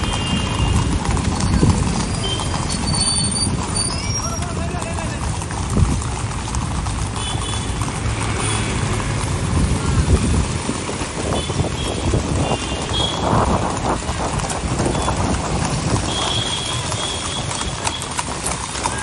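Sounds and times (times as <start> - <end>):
hooves clopping on paved road: 0.0 - 19.0
motorcycle and traffic engines: 0.0 - 19.0.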